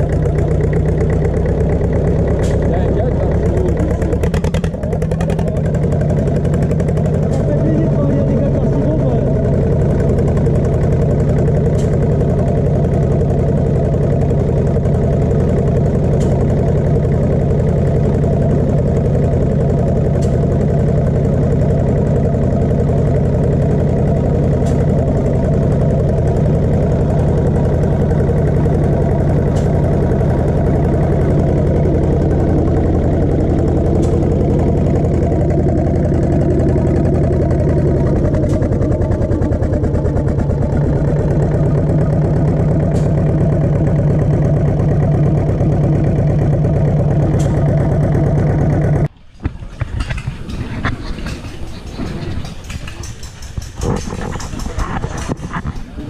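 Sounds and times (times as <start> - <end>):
old stationary engine running: 0.0 - 56.0.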